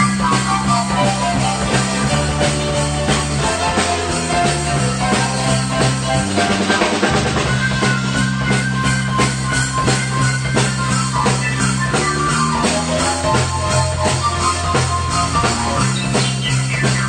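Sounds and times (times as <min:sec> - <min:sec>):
keyboard piano chords: 0:00.0 - 0:17.0
rock band playing: 0:00.0 - 0:17.0.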